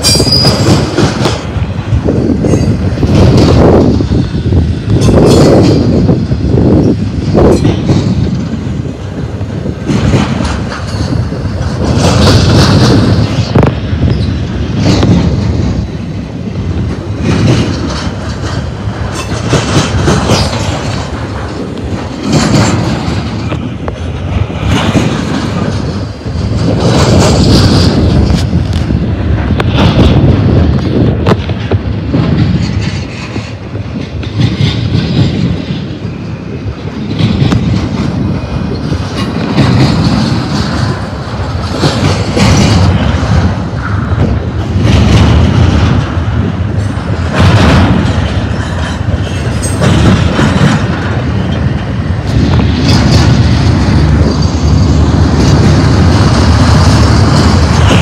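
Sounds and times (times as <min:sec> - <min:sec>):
steel wheels rumbling on rail: 0:00.0 - 0:58.0
wheels clacking over rail joints: 0:00.0 - 0:58.0.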